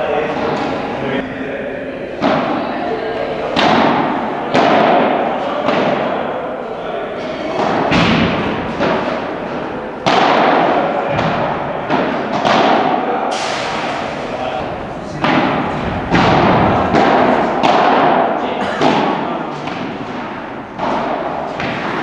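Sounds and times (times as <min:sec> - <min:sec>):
rackets hitting ball in echoing hall: 0:00.0 - 0:22.0.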